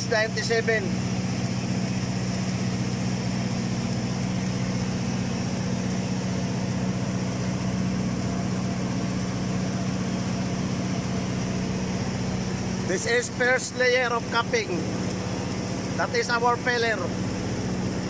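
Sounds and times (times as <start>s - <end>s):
welding machine electrical hum: 0.0s - 18.0s.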